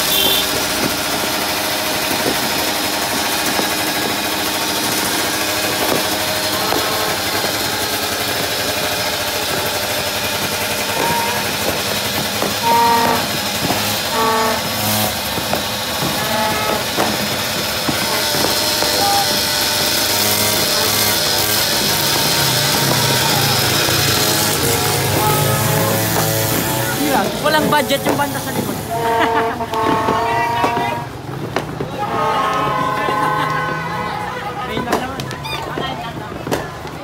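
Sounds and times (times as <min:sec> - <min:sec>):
horn tooting: 0:00.0 - 0:01.4, 0:03.4 - 0:35.9
firecrackers crackling and popping: 0:00.0 - 0:37.0.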